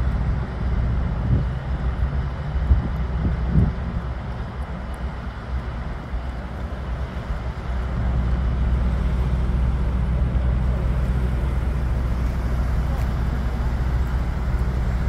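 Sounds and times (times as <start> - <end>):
city street traffic: 0.0 - 15.0
vehicle engine hum: 0.0 - 15.0.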